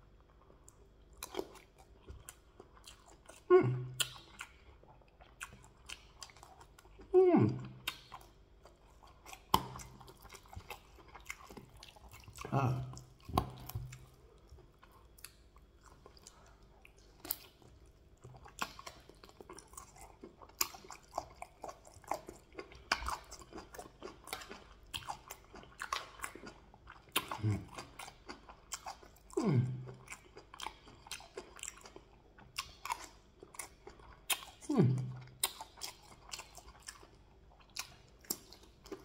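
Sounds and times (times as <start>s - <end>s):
person chewing and biting: 0.1s - 39.0s.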